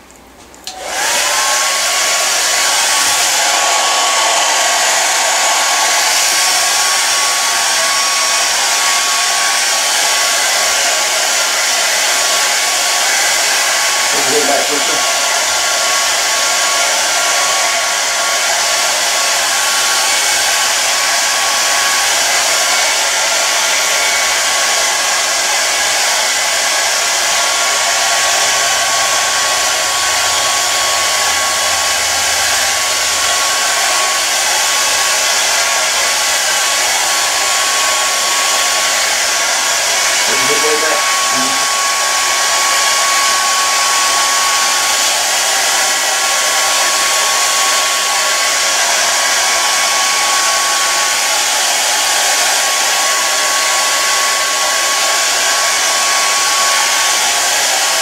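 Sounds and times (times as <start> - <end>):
hair dryer running: 0.4 - 58.0.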